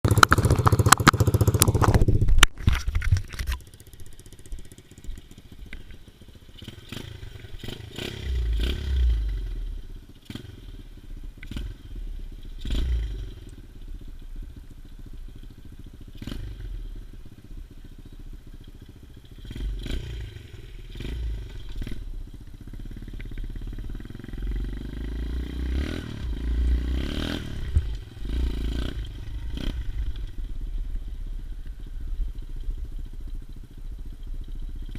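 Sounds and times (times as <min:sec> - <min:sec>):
motorbike engine running: 0:00.0 - 0:02.4, 0:03.5 - 0:34.9.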